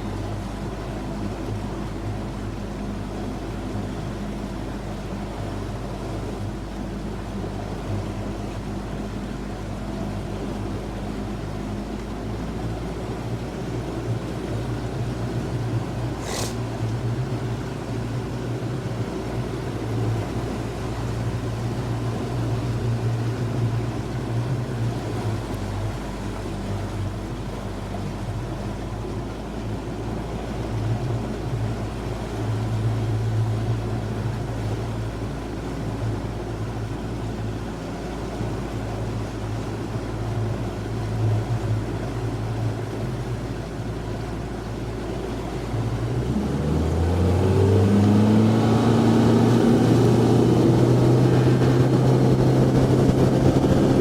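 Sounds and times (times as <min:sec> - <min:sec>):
boat motor droning: 0:00.0 - 0:54.0
water and wind noise: 0:00.0 - 0:54.0.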